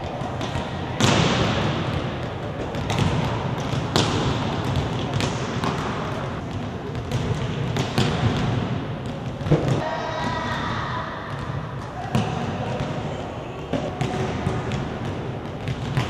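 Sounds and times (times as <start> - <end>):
large hall background noise: 0.0 - 16.0
volleyballs bouncing and hit: 0.0 - 16.0.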